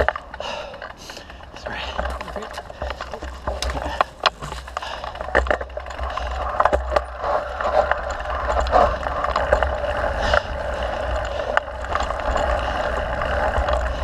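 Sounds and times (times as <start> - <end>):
bike clicks and rattles: 0.0 - 14.0
bike rolling on dirt trail: 0.0 - 14.0.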